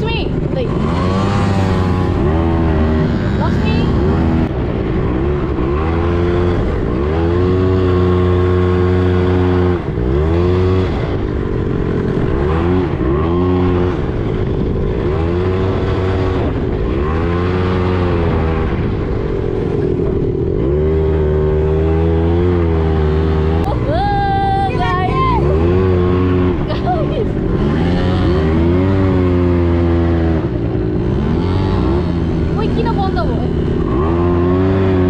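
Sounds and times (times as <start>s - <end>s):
quad bike engine revving: 0.0s - 35.0s.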